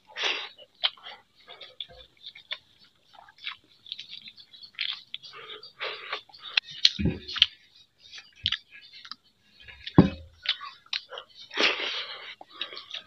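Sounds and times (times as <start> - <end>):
wet chewing and lip-smacking: 0.1 - 13.0.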